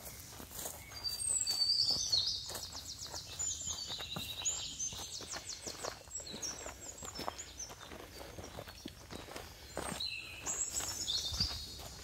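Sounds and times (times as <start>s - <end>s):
footsteps on dirt trail: 0.0s - 12.0s
songbirds trilling: 0.0s - 12.0s.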